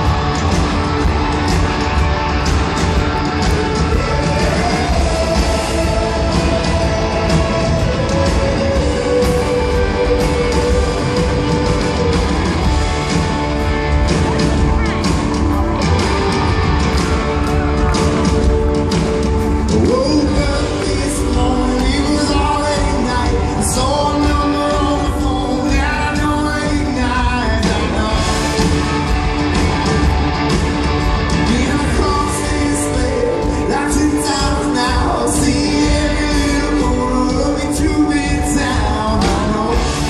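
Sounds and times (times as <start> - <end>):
person singing: 0.0 - 13.1, 17.1 - 29.2, 31.3 - 40.0
drums: 0.0 - 40.0
electric guitars: 0.0 - 40.0.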